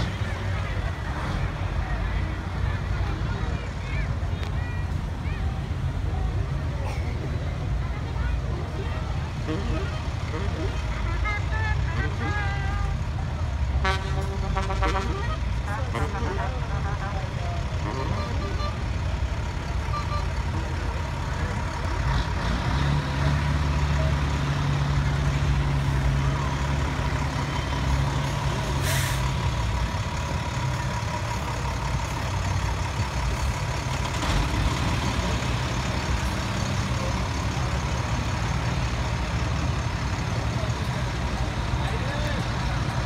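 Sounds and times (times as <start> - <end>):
truck engine rumbling: 0.0 - 43.0.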